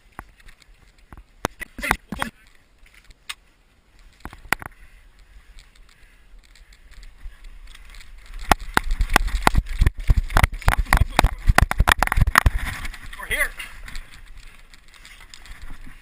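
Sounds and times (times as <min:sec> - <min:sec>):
faint clicks: 0:00.0 - 0:16.0
footsteps and clattering gear: 0:00.0 - 0:16.0.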